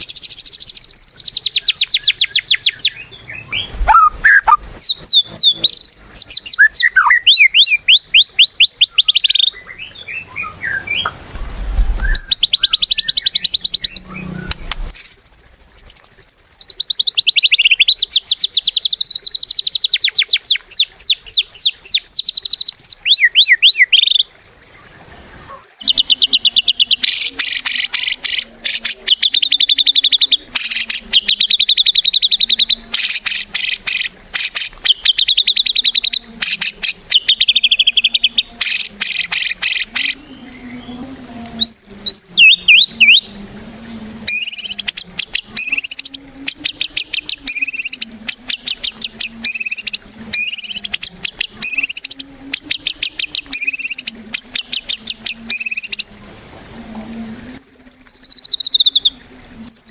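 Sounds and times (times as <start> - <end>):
songbird singing rapid notes: 0.0 - 11.3, 12.0 - 56.2, 57.5 - 59.9.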